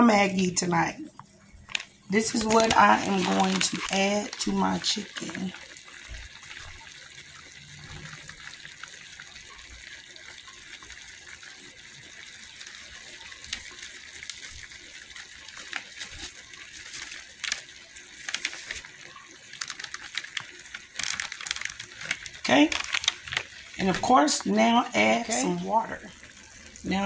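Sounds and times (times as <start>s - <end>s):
meat simmering in a pot: 0.0s - 27.0s.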